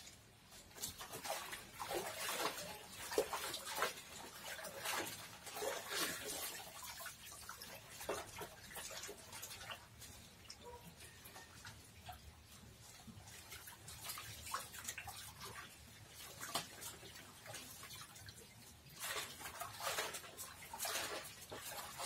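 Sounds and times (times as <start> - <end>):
water splashing in a bucket: 0.0 - 22.0.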